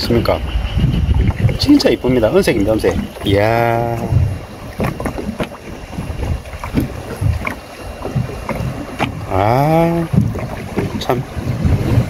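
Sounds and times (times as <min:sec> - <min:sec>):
water slapping against boat hull: 0:00.0 - 0:12.0
wind on microphone: 0:00.0 - 0:12.0.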